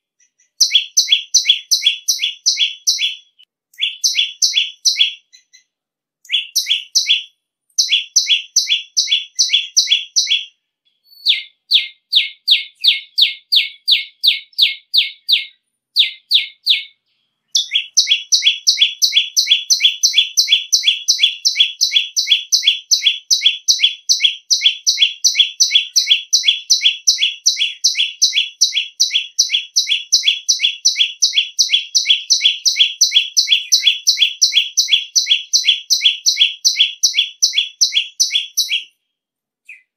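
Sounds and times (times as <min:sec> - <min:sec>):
bird calling shrill notes: 0:00.2 - 0:05.6, 0:06.3 - 0:17.0, 0:17.6 - 0:38.9.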